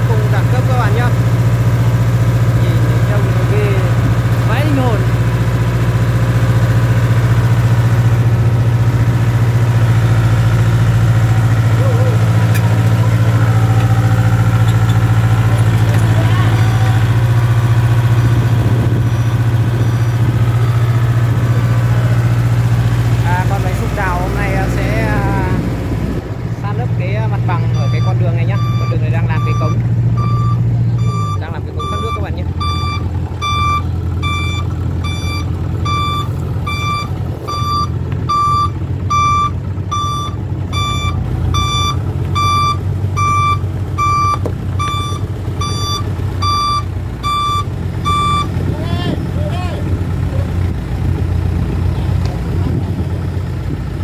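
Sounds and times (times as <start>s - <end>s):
truck reverse alarm beeping: 0.0s - 25.0s, 27.3s - 48.7s
diesel engine running: 0.0s - 54.0s.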